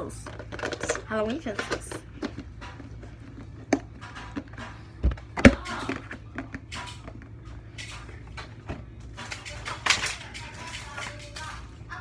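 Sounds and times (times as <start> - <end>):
plastic containers clicking and rustling: 0.0 - 11.7.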